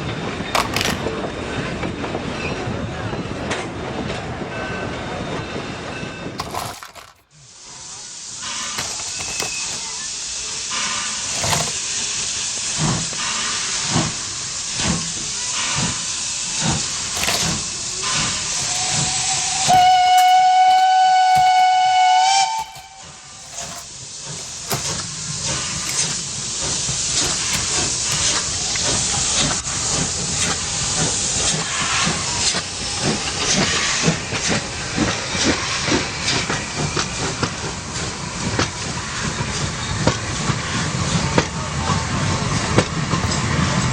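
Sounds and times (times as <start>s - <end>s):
steam locomotive running: 3.5s - 43.9s.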